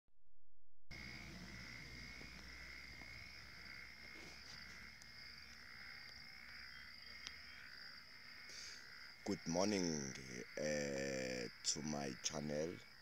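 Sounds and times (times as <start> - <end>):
insects chirring: 0.9 - 13.0.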